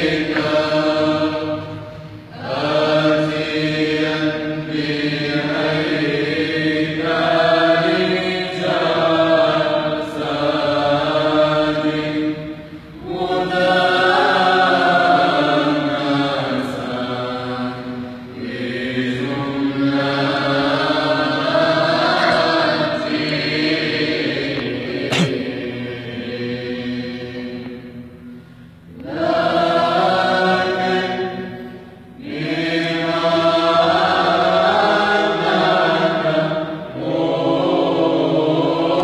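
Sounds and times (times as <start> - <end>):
choir singing a chant: 0.0 - 39.0.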